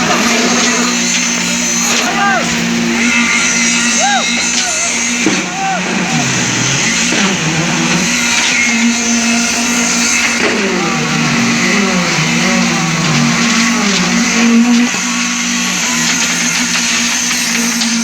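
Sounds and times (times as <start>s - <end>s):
construction machinery engine hum: 0.0s - 18.0s
low wavering drone: 0.0s - 18.0s.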